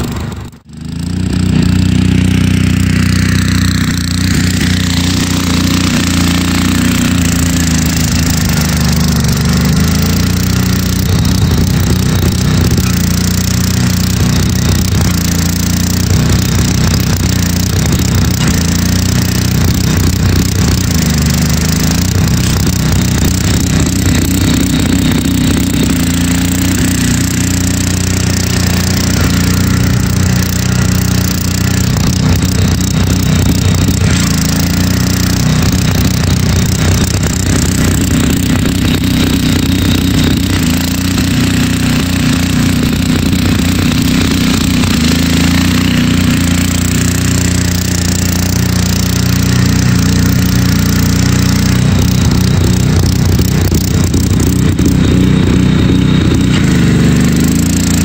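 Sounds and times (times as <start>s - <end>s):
garden tractor engine running: 0.0s - 58.0s.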